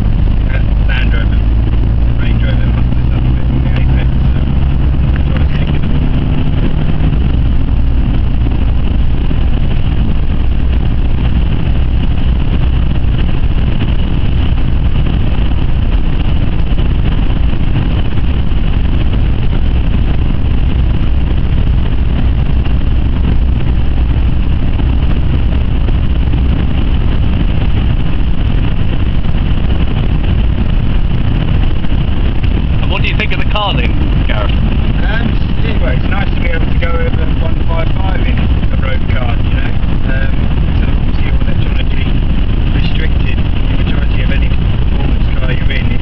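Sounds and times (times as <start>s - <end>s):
engine tyre and wind drone: 0.0s - 46.0s.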